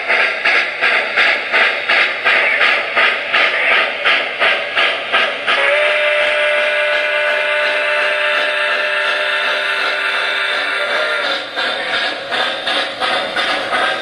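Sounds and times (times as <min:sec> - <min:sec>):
steam locomotive chuffing: 0:00.0 - 0:14.0.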